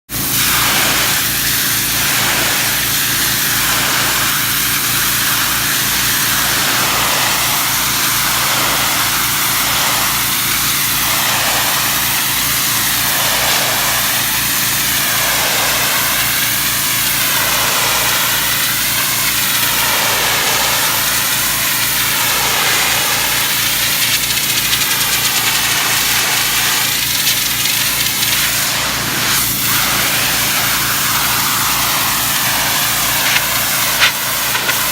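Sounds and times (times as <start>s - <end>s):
pressure washer engine running: 0.1s - 34.9s
water spray hissing on brick: 0.1s - 34.9s.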